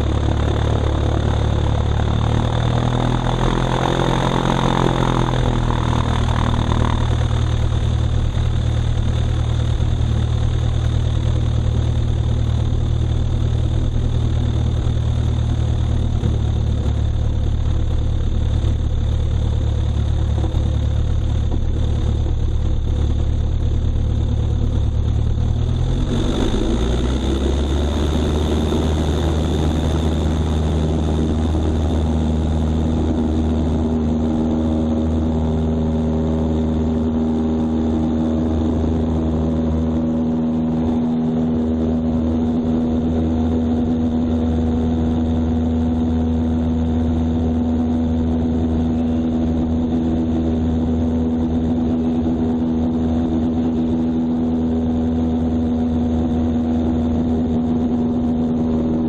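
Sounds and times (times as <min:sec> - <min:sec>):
small plane engine: 0:00.0 - 0:59.0.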